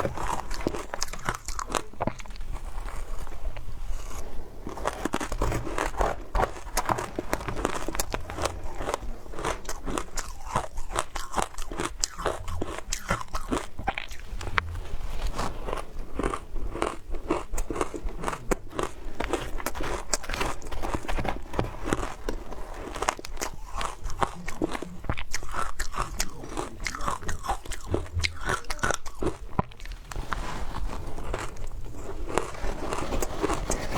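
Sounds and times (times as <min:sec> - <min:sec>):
crunching and chewing shaved ice: 0:00.0 - 0:33.9.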